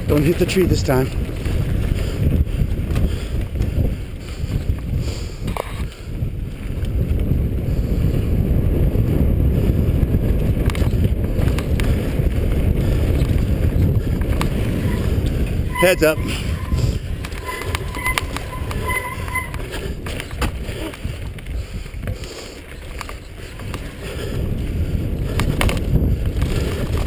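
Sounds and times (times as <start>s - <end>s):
bike clicks and clatters: 0.0s - 15.6s, 19.8s - 27.0s
wind on microphone: 0.9s - 27.0s.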